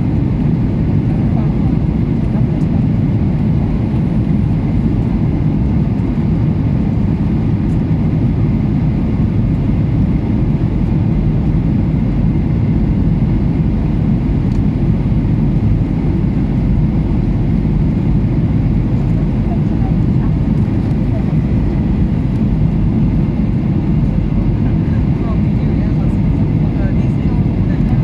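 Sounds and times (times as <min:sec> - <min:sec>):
airliner engine and airflow rumble: 0:00.0 - 0:28.0.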